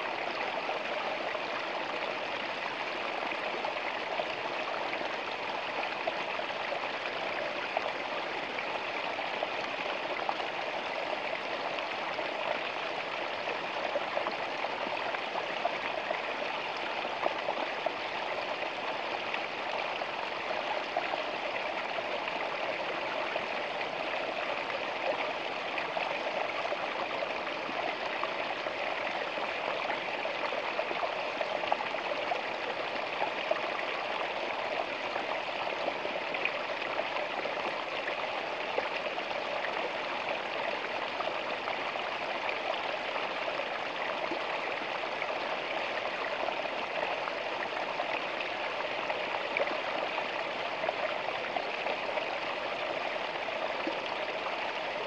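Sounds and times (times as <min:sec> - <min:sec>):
stream splashing over rocks: 0:00.0 - 0:55.0.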